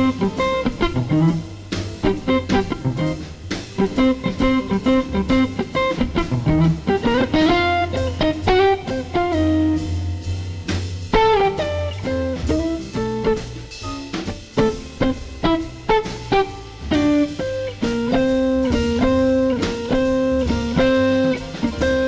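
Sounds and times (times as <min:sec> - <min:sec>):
jazz band playing: 0:00.0 - 0:22.0
jazz guitar runs: 0:00.0 - 0:22.0.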